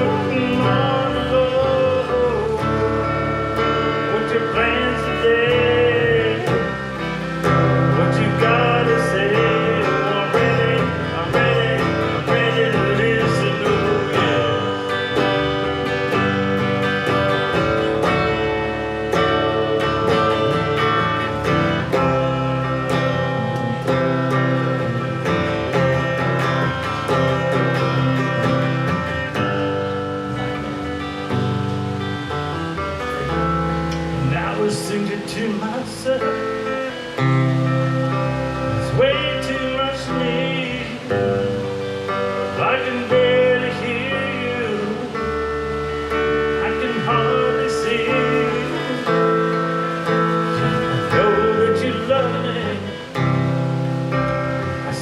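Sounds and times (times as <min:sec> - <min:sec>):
country guitar playing: 0:00.0 - 0:55.0.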